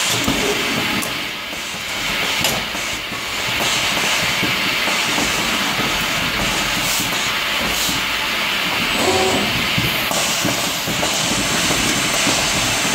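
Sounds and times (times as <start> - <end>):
machine hissing: 0.0 - 12.9.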